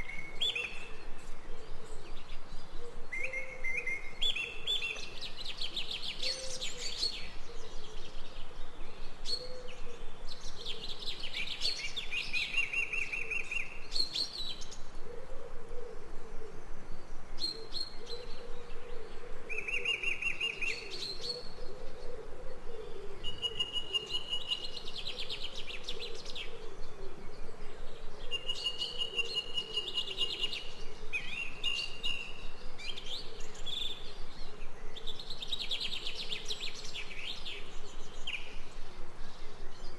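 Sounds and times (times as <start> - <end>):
birds chirping and trilling: 0.0 - 15.3, 16.1 - 39.9.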